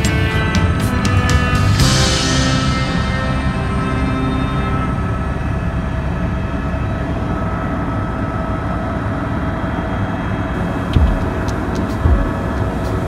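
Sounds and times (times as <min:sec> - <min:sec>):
helicopter cabin rumble: 0:00.0 - 0:13.0.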